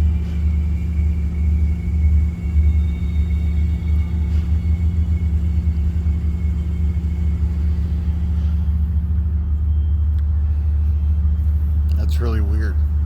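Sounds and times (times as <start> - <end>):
deep hum: 0.0 - 13.0
low rumbling drone: 0.0 - 13.0.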